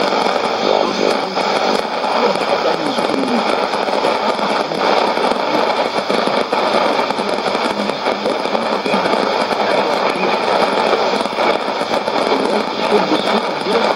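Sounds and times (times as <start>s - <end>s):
radio static and hiss: 0.0s - 13.9s.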